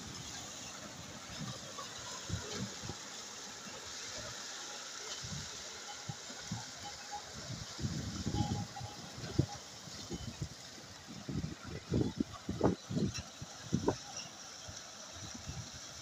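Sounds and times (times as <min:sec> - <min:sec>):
water pouring and splashing: 0:00.0 - 0:16.0.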